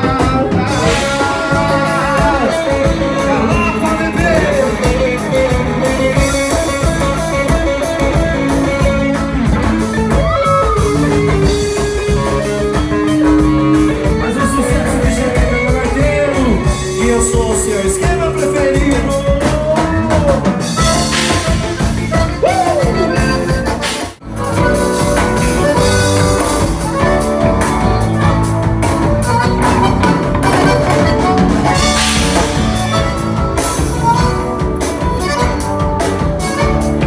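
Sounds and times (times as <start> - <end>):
accordion: 0.0 - 37.0
bass guitar: 0.0 - 37.0
drum kit: 0.0 - 37.0
electric guitar: 0.0 - 37.0.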